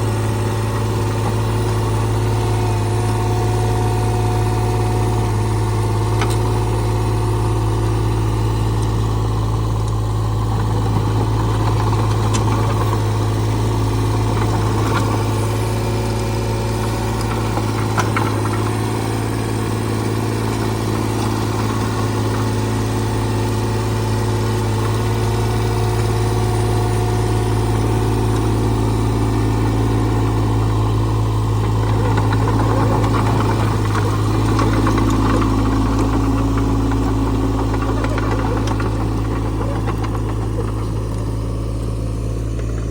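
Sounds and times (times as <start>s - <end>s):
diesel excavator engine idling: 0.0s - 42.9s.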